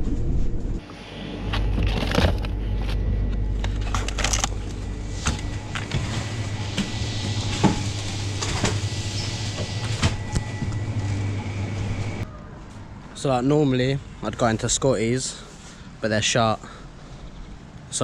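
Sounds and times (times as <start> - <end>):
vehicle engine hum: 0.5 - 16.0.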